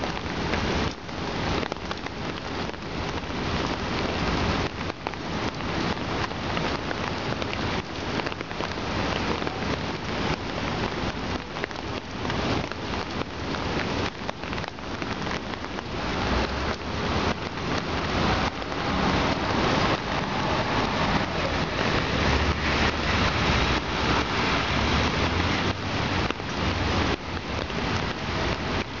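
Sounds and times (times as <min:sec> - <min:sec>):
rain falling on pool water: 0:00.0 - 0:29.0.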